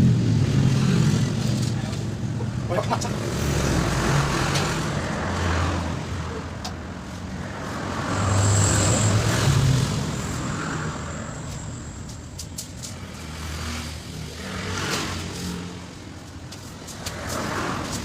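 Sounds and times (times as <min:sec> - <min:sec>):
vehicle engines passing: 0:00.0 - 0:18.0.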